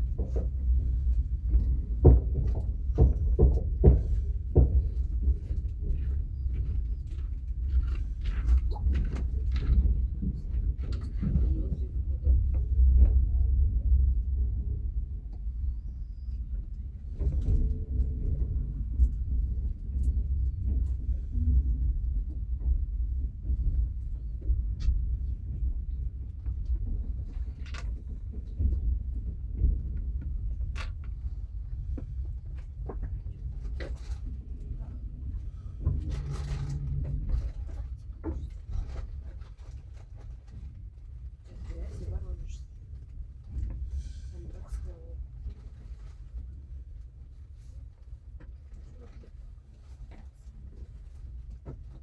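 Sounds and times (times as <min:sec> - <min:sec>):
train low rumble: 0:00.0 - 0:52.0.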